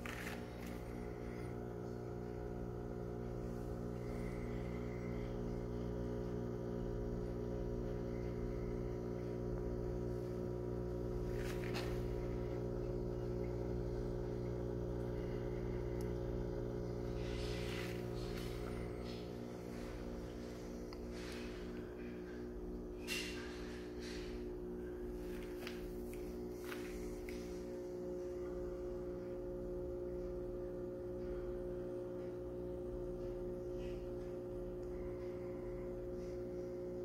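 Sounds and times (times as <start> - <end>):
aquarium pumps humming: 0.0 - 37.0.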